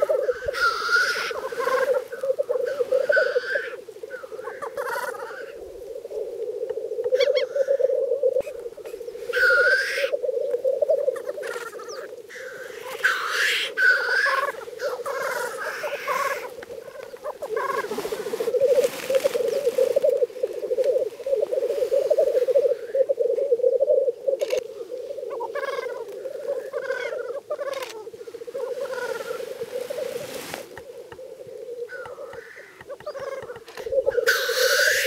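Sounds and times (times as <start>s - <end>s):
black grouse bubbling chorus: 0.0s - 35.0s
hissing bird calls: 0.0s - 35.0s.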